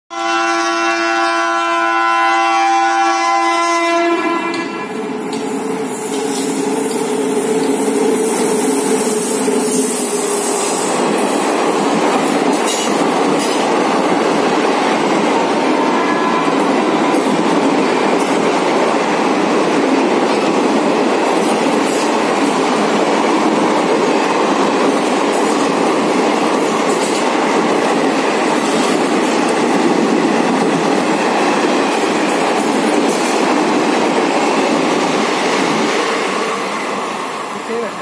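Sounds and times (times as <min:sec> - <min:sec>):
train wheels rumbling on rails: 0:04.0 - 0:38.0.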